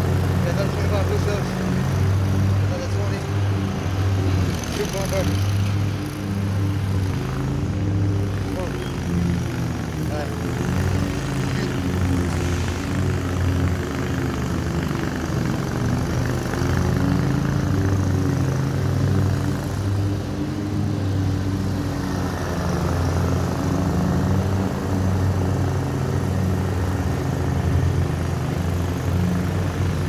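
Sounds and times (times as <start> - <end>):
lawn mower engine droning: 0.0 - 30.0.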